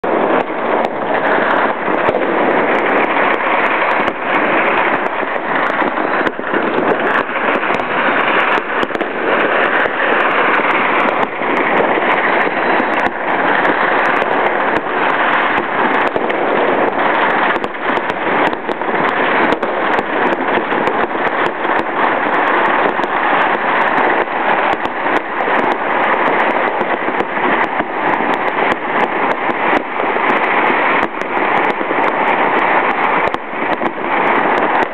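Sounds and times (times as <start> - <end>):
firecrackers crackling: 0.0 - 34.9.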